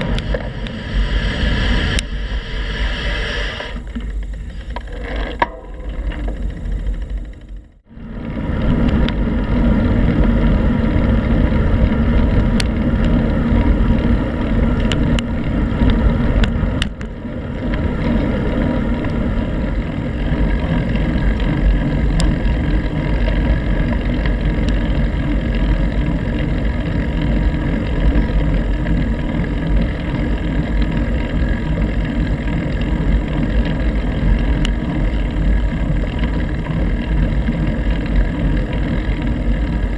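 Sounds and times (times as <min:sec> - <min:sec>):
bicycle tyres on pavement: 0:00.0 - 0:39.9
wind rumbling on microphone: 0:00.0 - 0:39.9.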